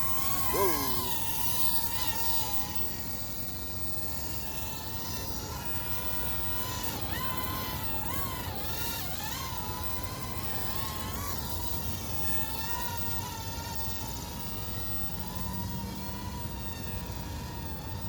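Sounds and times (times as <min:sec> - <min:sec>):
toy drone motors whining: 0:00.0 - 0:18.0.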